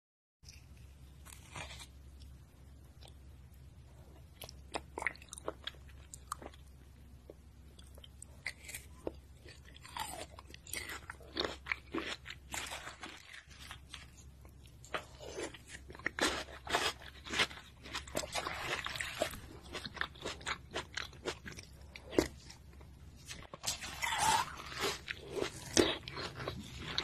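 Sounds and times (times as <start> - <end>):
chewing and crunching ice: 4.0 - 6.6, 7.7 - 27.0.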